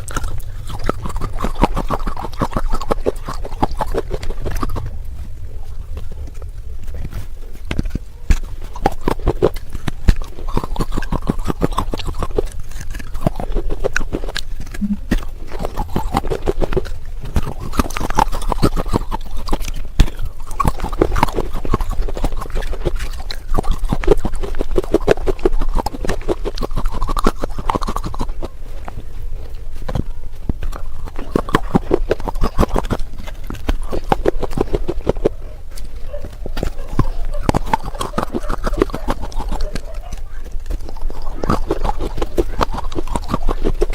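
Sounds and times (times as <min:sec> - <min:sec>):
chewing clay pot pieces: 0:00.0 - 0:43.9.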